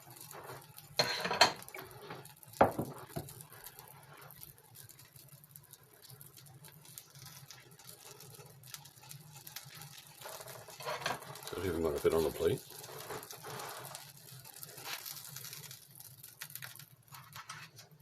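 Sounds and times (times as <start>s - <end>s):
utensil scraping frying pan: 0.0s - 5.0s, 6.7s - 16.1s, 17.1s - 18.0s
faint crackling: 0.0s - 18.0s.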